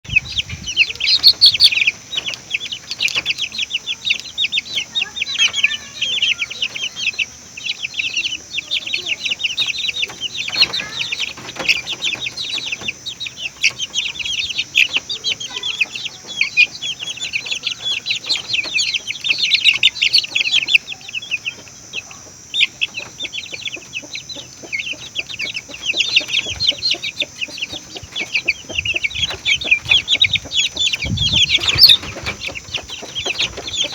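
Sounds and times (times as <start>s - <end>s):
lovebirds chattering: 0.0s - 33.9s.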